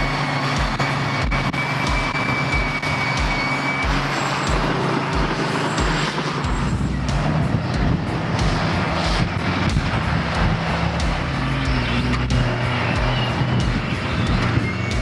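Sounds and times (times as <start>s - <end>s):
continuous machinery rumble: 0.0s - 15.0s
diesel engine drone: 0.0s - 15.0s
low rhythmic thumping: 0.0s - 15.0s.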